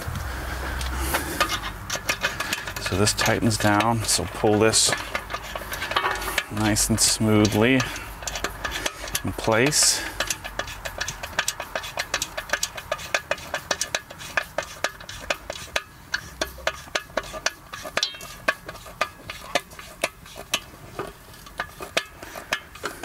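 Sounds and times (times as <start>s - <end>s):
rapid metallic clicking: 0.8s - 23.0s.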